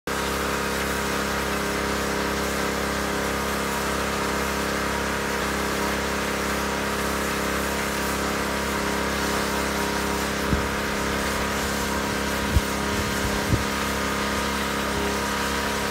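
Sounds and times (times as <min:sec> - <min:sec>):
motor droning steadily: 0:00.1 - 0:15.9.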